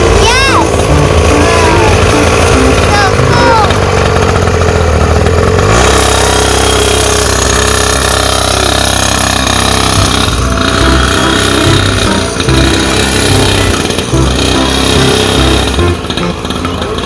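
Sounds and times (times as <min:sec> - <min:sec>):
pocket bike engine buzzing: 0:00.0 - 0:17.0.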